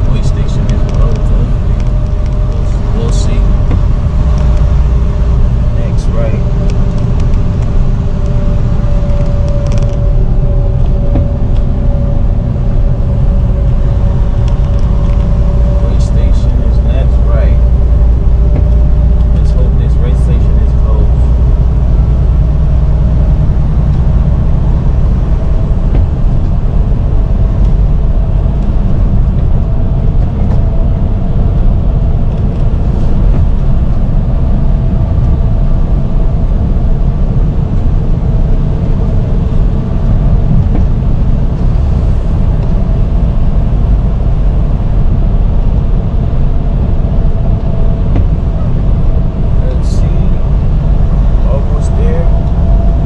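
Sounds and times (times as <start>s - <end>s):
truck engine and road rumble: 0.0s - 53.0s.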